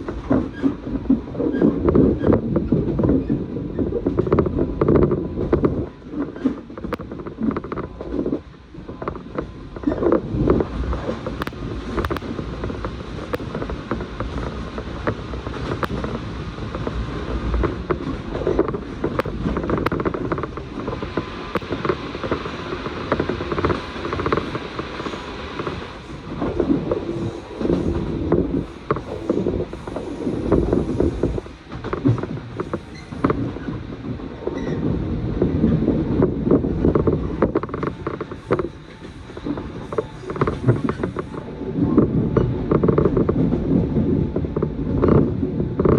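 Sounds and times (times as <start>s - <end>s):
train car clicks and creaks: 0.0s - 45.9s
train wheels rumbling on rails: 0.0s - 45.9s.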